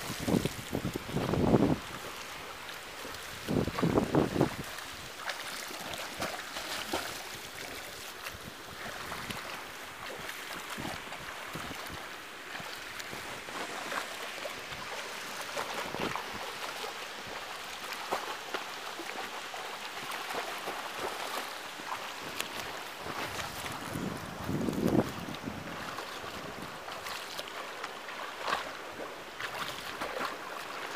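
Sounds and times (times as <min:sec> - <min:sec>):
water wash: 0:00.0 - 0:30.9.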